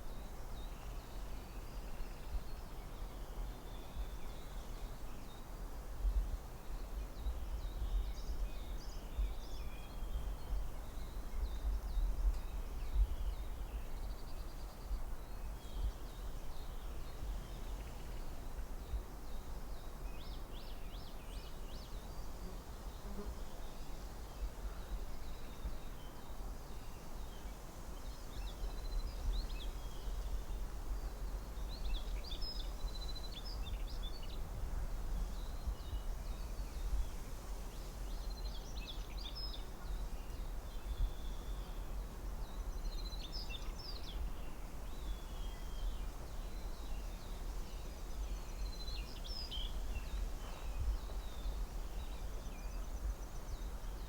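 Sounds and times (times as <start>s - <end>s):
wind rumble and hiss: 0.0s - 54.0s.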